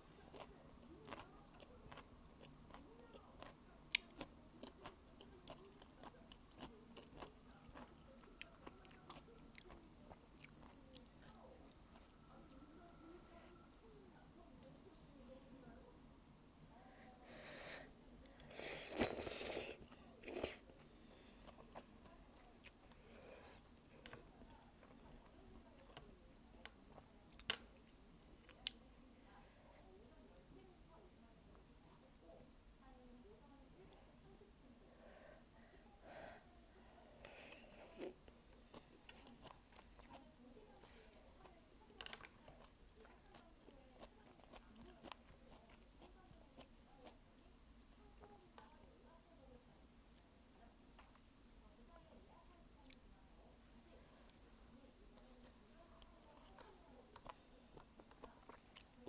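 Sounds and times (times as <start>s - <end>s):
soft chewing clicks: 0.0s - 15.2s, 17.8s - 30.0s, 36.5s - 48.8s, 50.1s - 59.0s.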